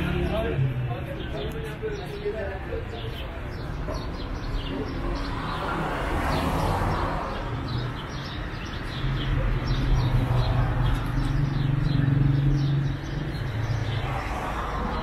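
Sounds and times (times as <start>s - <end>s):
birds chirping: 0.0s - 15.0s
street background noise: 0.0s - 15.0s.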